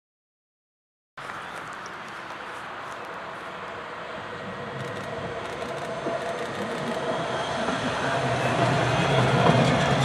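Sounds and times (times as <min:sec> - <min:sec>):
electric tram passing: 0:01.2 - 0:10.0.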